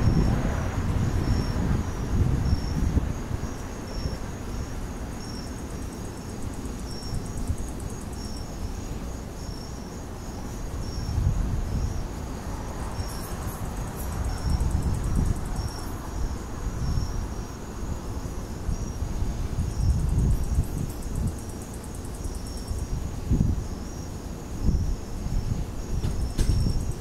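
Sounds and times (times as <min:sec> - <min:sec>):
crickets chirping: 0:00.0 - 0:27.0
high insect trill: 0:00.0 - 0:27.0
wind rumbling on microphone: 0:00.0 - 0:27.0.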